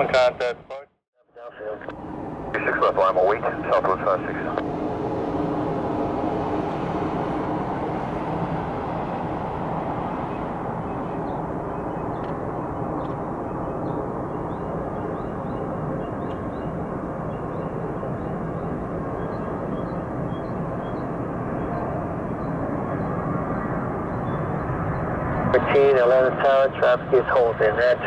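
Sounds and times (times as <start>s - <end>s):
distant jet engines rumbling: 1.4s - 28.0s.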